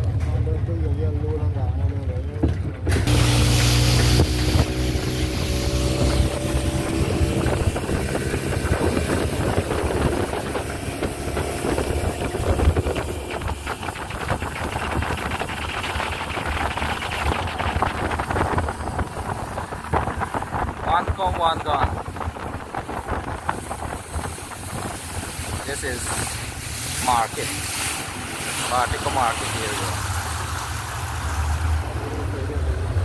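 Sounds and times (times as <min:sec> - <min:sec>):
boat engine running: 0:00.0 - 0:33.0
water rushing along hull: 0:01.7 - 0:33.0
wind buffeting microphone: 0:02.3 - 0:32.0.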